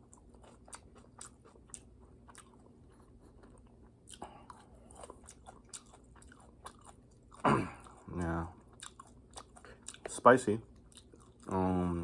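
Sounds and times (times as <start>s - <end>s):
chewing crunchy food: 0.0s - 11.9s.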